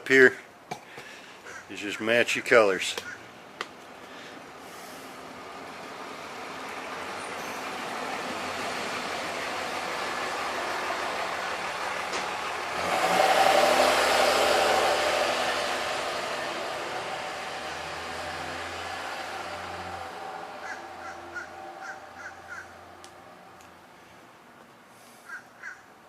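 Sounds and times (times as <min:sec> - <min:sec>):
road vehicle passing by: 0:02.8 - 0:25.8.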